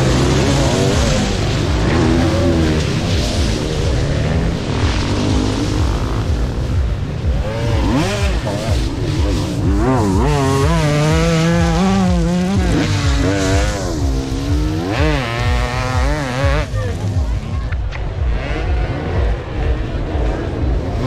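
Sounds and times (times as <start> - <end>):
motocross bike engines revving: 0.0 - 21.0
steady low rumble: 0.0 - 21.0.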